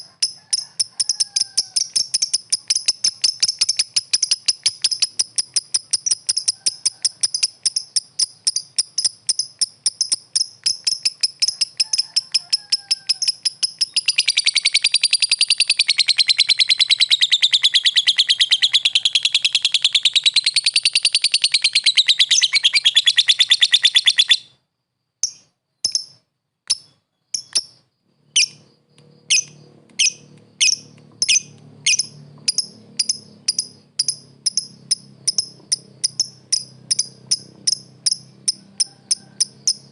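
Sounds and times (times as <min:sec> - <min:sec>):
lovebird chirping and trilling: 0:00.0 - 0:24.6, 0:25.2 - 0:39.9.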